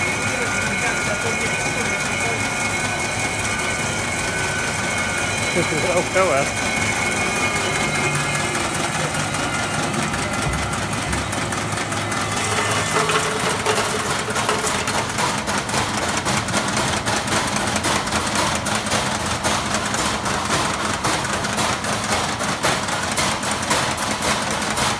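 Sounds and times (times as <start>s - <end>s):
machine humming: 0.0s - 24.9s.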